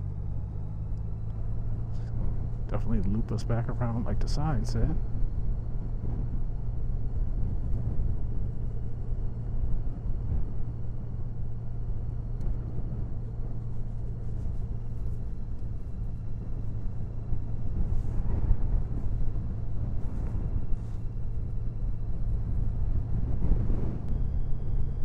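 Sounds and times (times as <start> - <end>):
motorcycle engine running: 0.0 - 25.0
wind buffeting microphone: 4.4 - 25.0.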